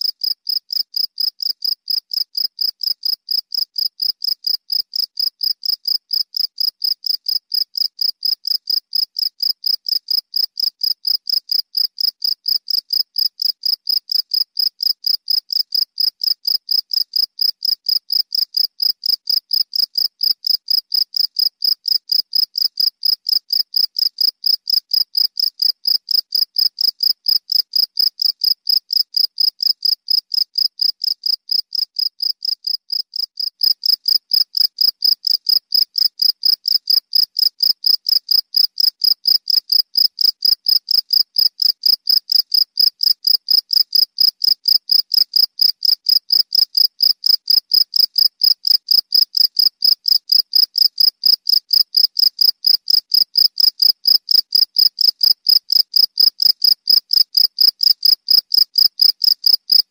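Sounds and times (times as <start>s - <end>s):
cricket chirping: 0.1s - 59.9s.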